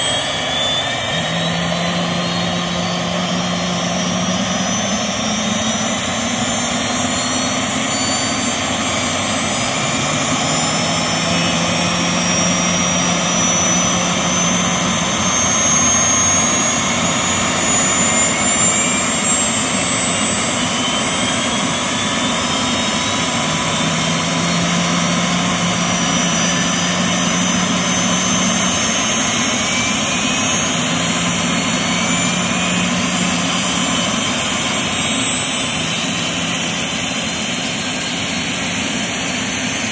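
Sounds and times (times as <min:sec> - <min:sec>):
helicopter engines running: 0:00.0 - 0:39.9
high turbine whine: 0:00.0 - 0:39.9.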